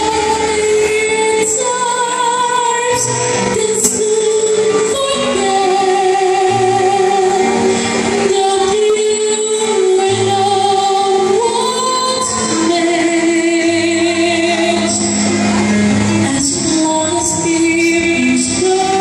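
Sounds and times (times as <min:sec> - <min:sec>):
woman singing: 0:00.0 - 0:15.3, 0:16.1 - 0:19.0
low instrumental accompaniment: 0:00.0 - 0:19.0.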